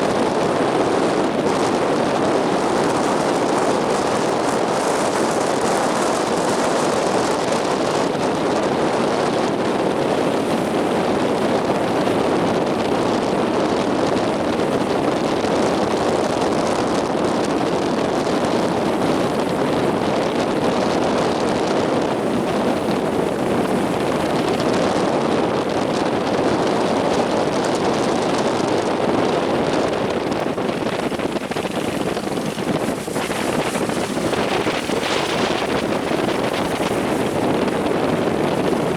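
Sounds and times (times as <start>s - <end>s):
strong wind on microphone: 0.0s - 38.9s.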